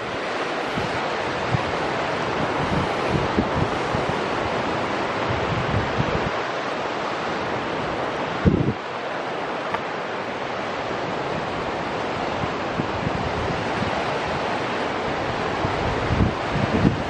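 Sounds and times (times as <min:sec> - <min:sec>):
river rushing over rapids: 0:00.0 - 0:17.0
wind buffeting microphone: 0:00.0 - 0:17.0.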